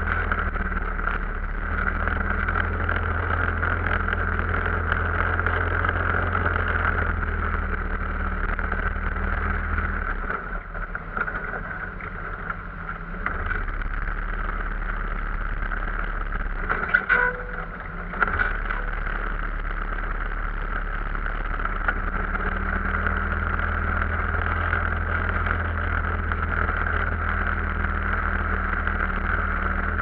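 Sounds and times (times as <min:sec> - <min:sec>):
off-road vehicle engine running: 0:00.0 - 0:30.0.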